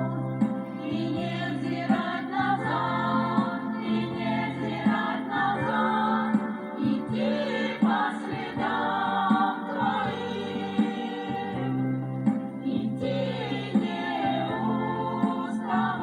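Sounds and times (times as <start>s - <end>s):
voices singing together: 0.0s - 16.0s
worship band playing: 0.0s - 16.0s.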